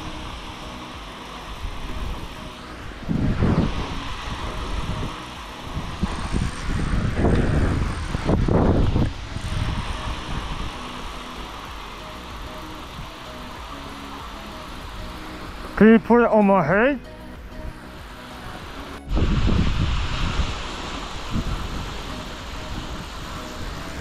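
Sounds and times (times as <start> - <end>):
low rumbling bursts: 0.0 - 24.0
soft background music: 0.0 - 24.0.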